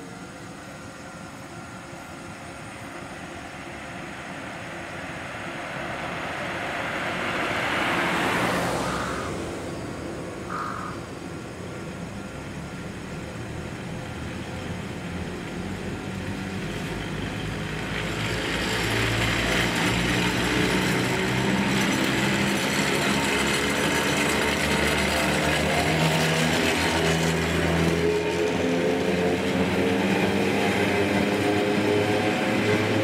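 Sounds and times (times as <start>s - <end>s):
wheel and rail noise: 0.0s - 33.0s.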